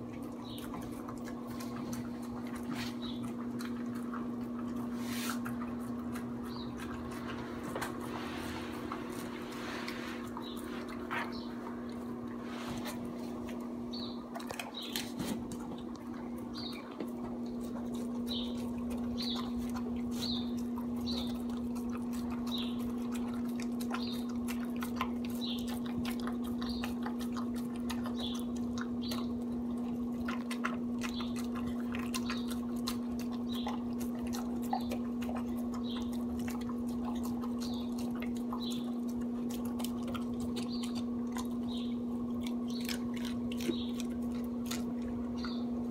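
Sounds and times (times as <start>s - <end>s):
dog chewing and licking: 0.0s - 45.9s
low electrical hum: 0.0s - 45.9s.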